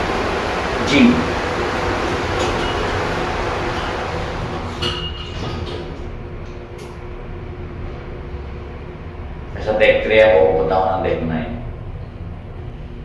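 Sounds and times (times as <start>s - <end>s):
lift rushing rumble: 0.0s - 13.0s.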